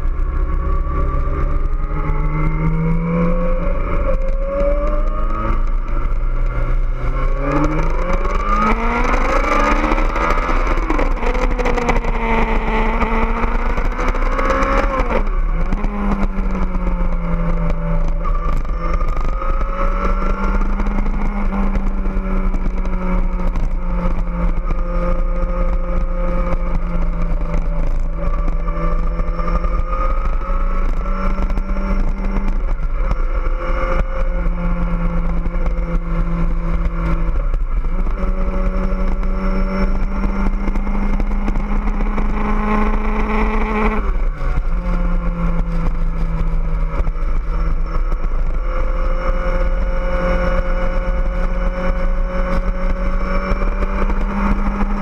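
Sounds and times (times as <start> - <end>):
motorcycle engine revving: 0.0 - 55.0
wind rumble on microphone: 0.0 - 55.0.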